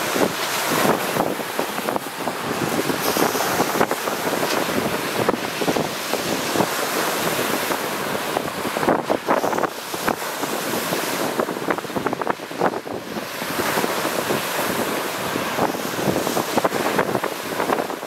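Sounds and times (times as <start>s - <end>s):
waves breaking on a rocky shore: 0.0s - 18.0s
wind buffeting the microphone: 0.0s - 18.0s.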